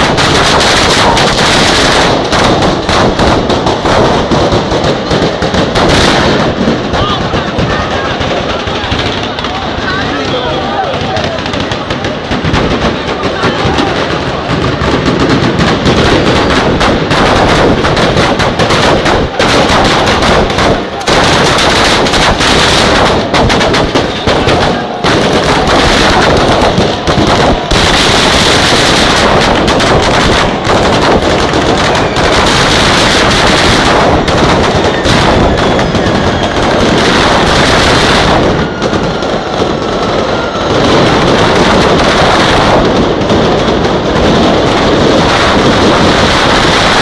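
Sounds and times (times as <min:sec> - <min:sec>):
firecracker chains bursting: 0:00.0 - 0:47.0.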